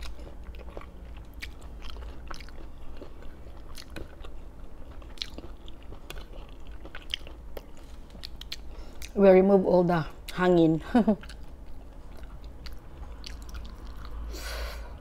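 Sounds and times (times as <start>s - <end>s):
person chewing food: 0.0s - 9.2s, 11.2s - 14.8s.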